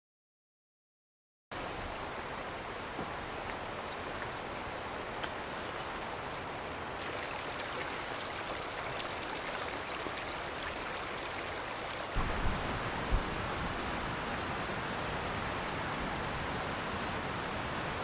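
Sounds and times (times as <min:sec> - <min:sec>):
light rain: 0:01.5 - 0:18.0.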